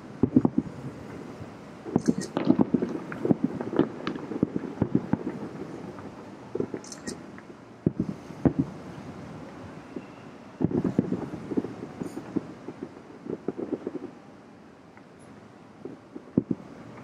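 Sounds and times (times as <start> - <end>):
distant fireworks bursting: 0.0 - 17.0.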